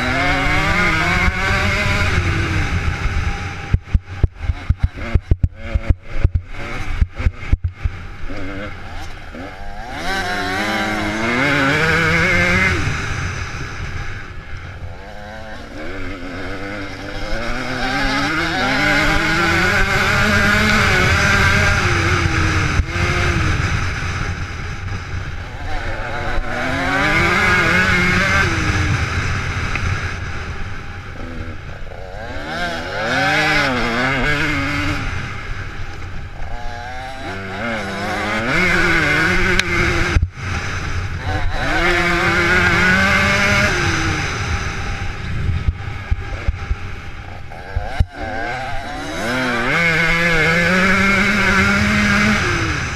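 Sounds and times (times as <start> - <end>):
motocross motorcycles racing past: 0.0 - 52.9.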